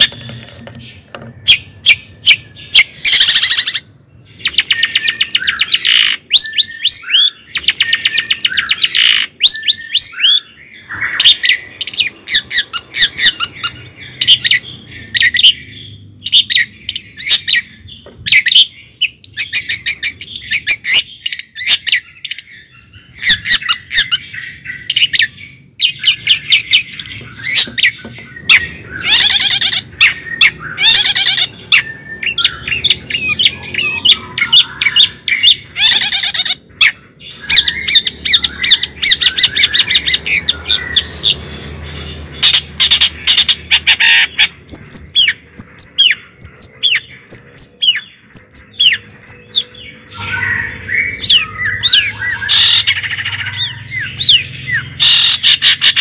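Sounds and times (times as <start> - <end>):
bird chattering and squawking: 0.0 - 56.0.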